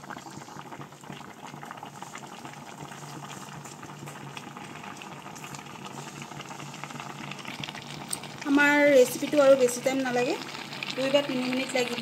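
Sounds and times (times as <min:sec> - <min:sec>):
stew boiling and bubbling: 0:00.0 - 0:12.0.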